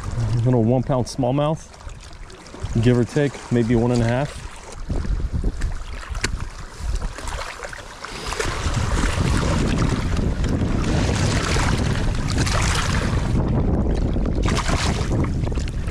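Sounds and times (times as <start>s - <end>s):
wind buffeting microphone: 0.0s - 7.5s, 8.1s - 15.9s
water sloshing in shallows: 0.0s - 15.9s.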